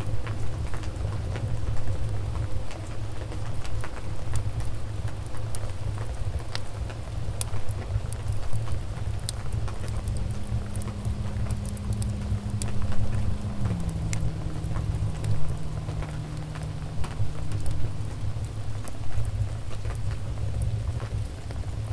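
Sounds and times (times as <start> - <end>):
wood fire crackling: 0.1 - 21.9.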